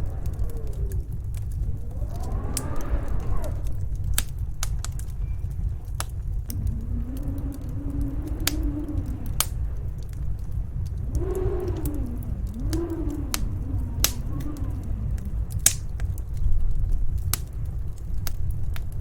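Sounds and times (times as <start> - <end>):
fireplace crackling and popping: 0.0 - 19.0
low wind rumble: 0.0 - 19.0
wind howling: 0.0 - 19.0.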